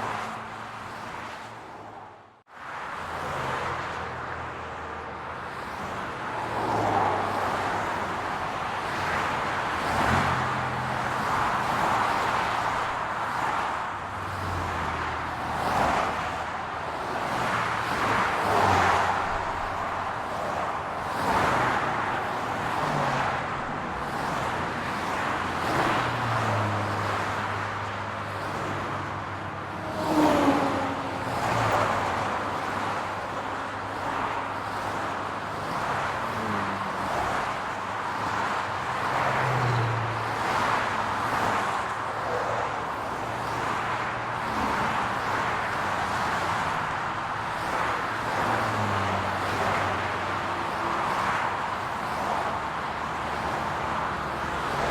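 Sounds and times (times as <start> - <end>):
cars driving by: 0.0 - 54.9.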